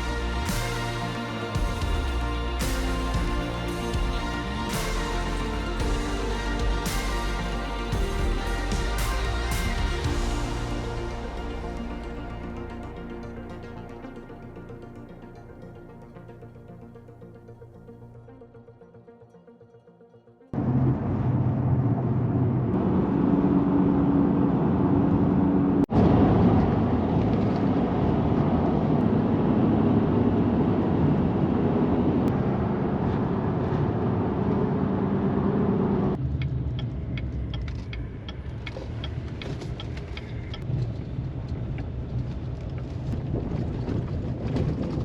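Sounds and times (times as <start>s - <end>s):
vehicle engine drone: 0.0s - 17.4s, 20.6s - 43.3s.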